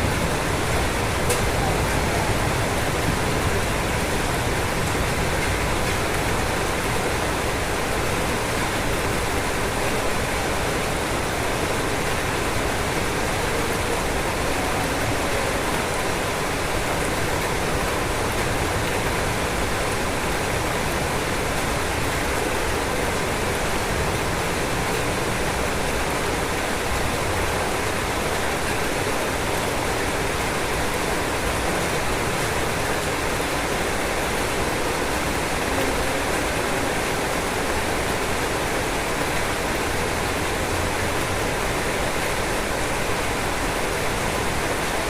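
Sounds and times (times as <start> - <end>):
rain on a roof: 0.0 - 45.0.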